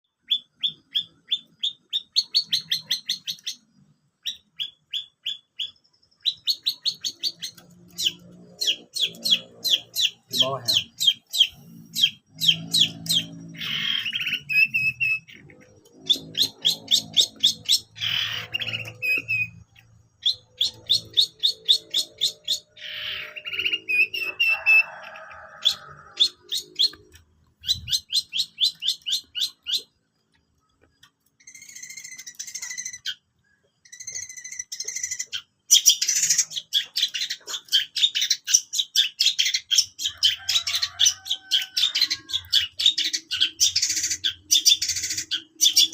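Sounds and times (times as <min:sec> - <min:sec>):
bird chattering: 0:00.2 - 0:30.1, 0:30.8 - 0:45.9.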